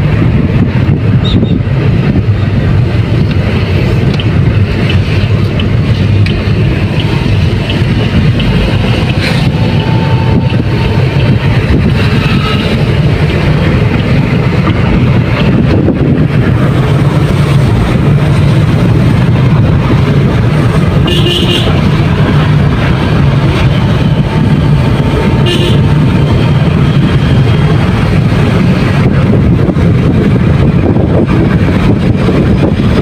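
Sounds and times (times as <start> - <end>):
engine and road rumble: 0.0 - 33.0
wind buffeting microphone: 0.0 - 33.0.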